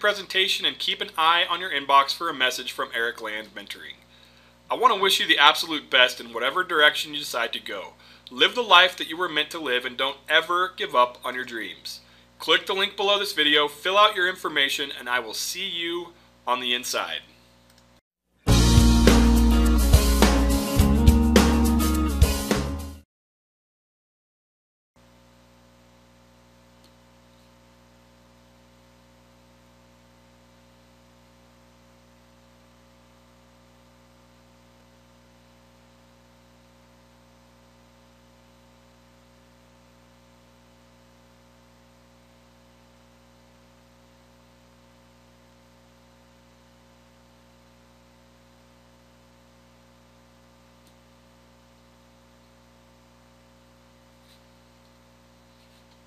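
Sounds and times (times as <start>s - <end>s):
faint electrical hum with hiss: 0.0s - 18.0s, 25.1s - 56.0s.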